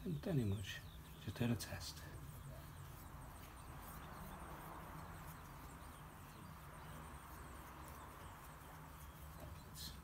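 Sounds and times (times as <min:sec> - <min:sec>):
paintbrush scrubbing on steel: 0:01.7 - 0:10.0.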